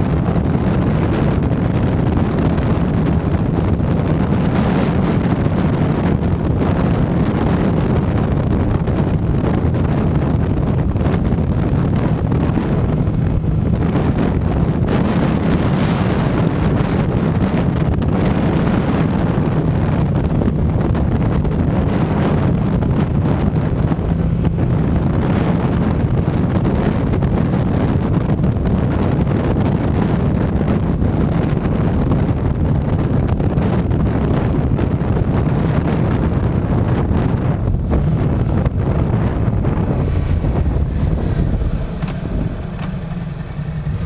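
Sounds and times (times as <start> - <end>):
motorcycle engine drone: 0.0 - 44.0
wind buffeting microphone: 0.0 - 44.0.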